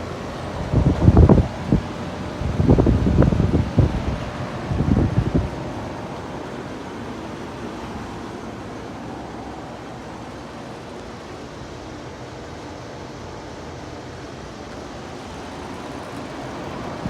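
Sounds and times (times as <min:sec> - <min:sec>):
air conditioner fan whooshing: 0:00.0 - 0:17.0.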